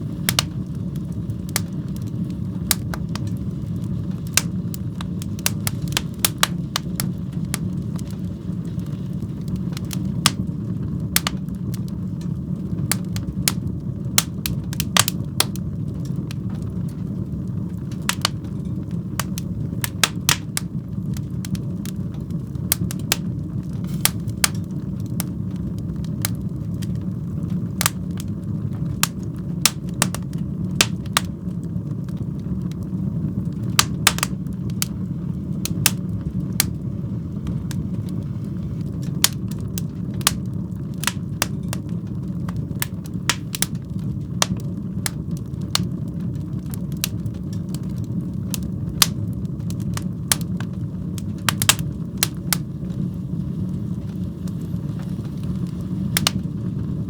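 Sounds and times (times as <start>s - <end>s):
fire popping and crackling: 0.0s - 57.0s
fire rumbling in a fireplace: 0.0s - 57.0s.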